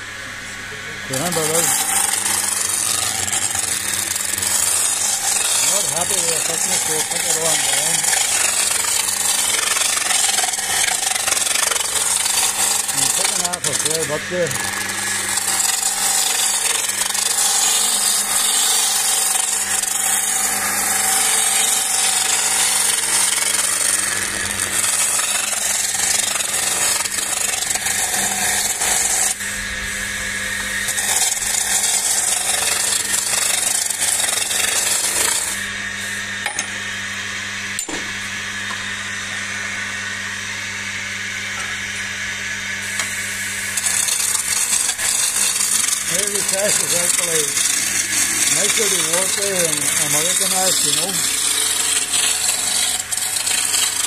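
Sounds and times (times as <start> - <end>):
chisel cutting wood shavings: 0.0 - 54.0
wood lathe motor hum: 0.0 - 54.0.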